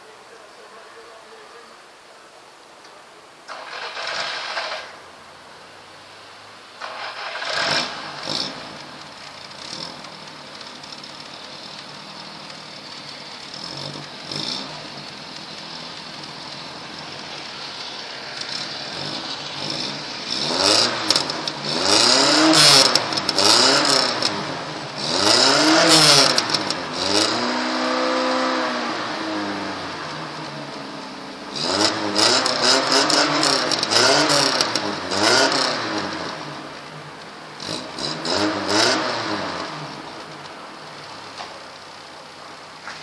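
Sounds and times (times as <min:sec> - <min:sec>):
car engine idling and revving: 0:03.5 - 0:43.0.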